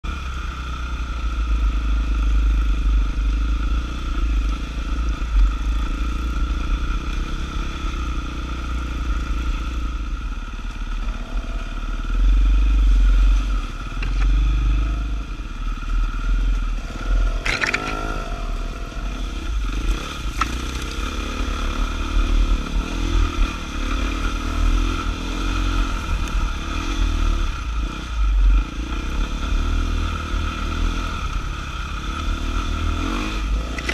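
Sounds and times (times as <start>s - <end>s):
dirt bike engine: 0.1s - 33.9s.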